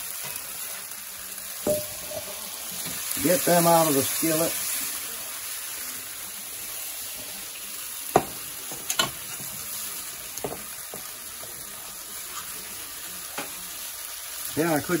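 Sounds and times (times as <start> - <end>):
vegetables sizzling in a skillet: 0.0 - 15.0.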